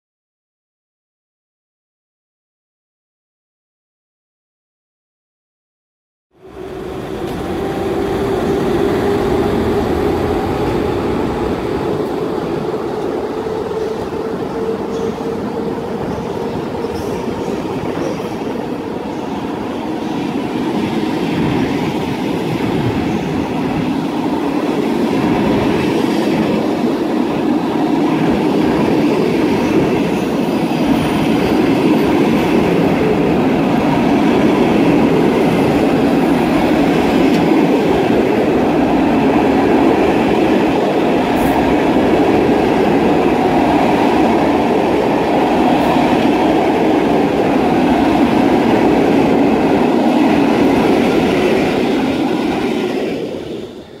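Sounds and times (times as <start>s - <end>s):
train wheels rumbling on rails: 6.4s - 54.0s.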